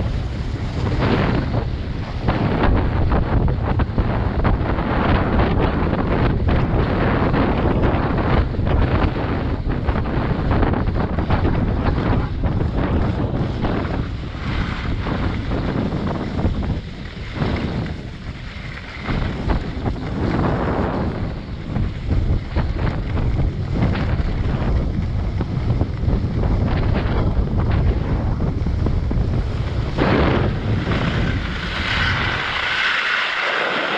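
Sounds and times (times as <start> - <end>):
skis sliding over snow: 0.0 - 33.9
wind buffeting microphone: 0.0 - 33.9.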